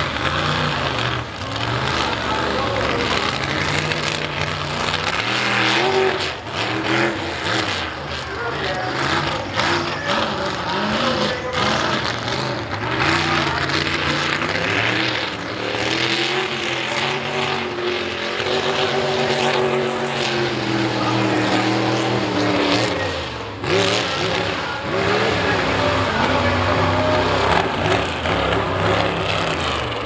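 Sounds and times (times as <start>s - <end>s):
truck engines revving hard: 0.0s - 30.0s.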